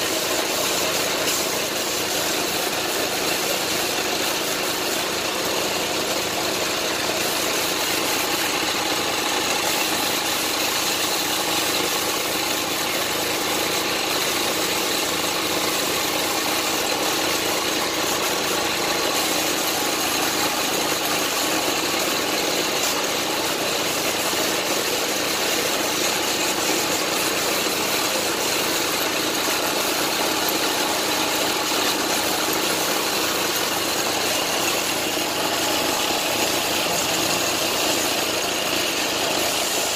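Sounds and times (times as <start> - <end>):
air compressor running: 0.0 - 39.9
paint spray gun hissing: 0.0 - 39.9.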